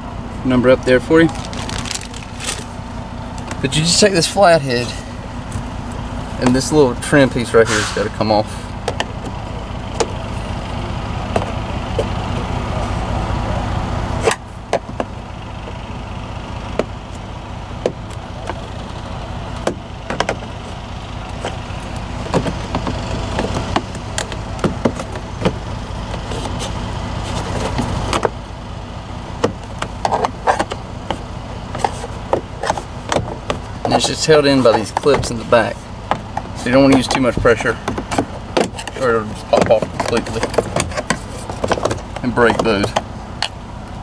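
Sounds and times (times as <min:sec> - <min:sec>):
truck engine idling: 0:00.0 - 0:44.0.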